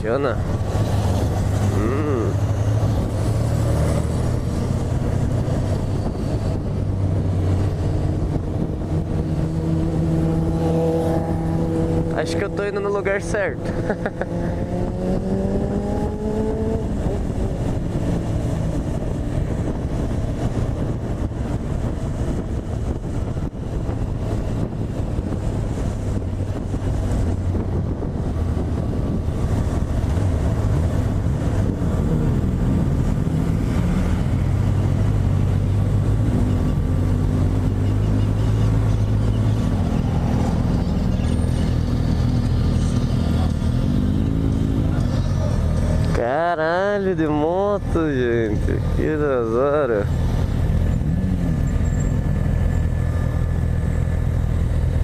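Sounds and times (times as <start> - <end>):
motorcycle engine accelerating: 0.4 - 46.1.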